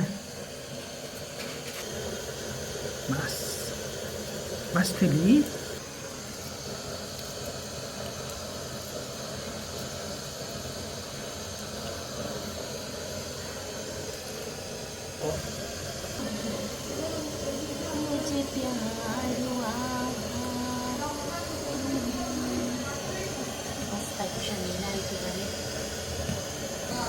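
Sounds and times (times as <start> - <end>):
stove and pot hissing: 0.0 - 27.0.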